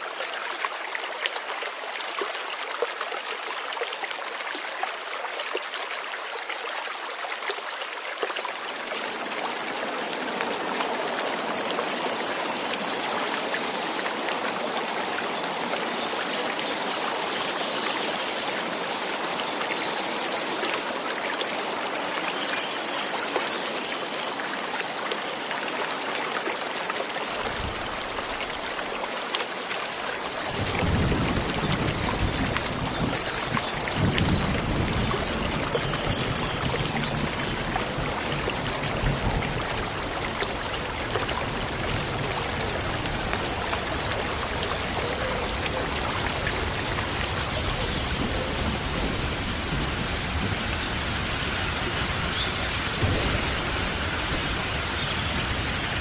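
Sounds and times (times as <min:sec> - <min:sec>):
light rain: 0:00.0 - 0:56.0.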